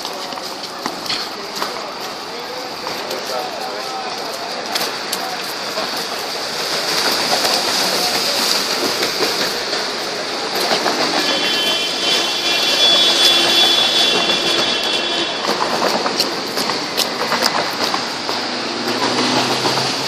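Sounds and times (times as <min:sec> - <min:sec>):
city street traffic: 0:00.0 - 0:20.0
tram whine: 0:00.0 - 0:20.0.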